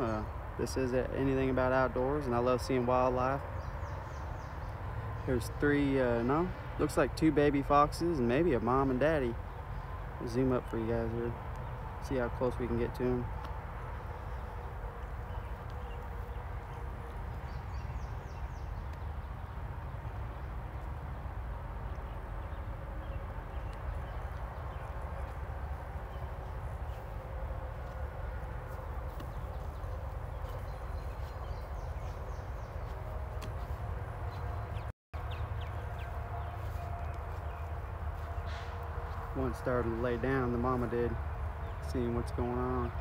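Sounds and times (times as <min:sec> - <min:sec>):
constant low rumble: 0:00.0 - 0:43.0.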